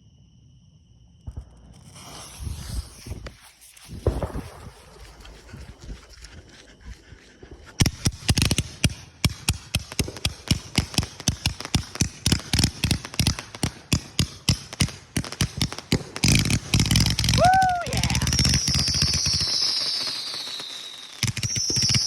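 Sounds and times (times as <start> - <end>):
fireworks cracking rapidly: 1.7 - 5.6, 7.8 - 22.0.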